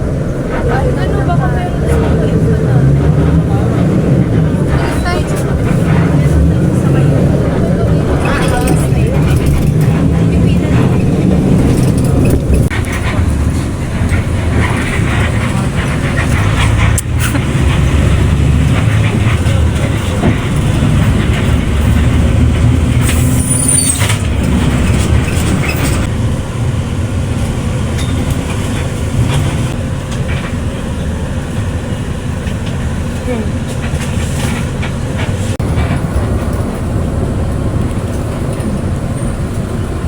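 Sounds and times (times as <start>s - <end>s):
vehicle engine rumble: 0.0s - 40.0s.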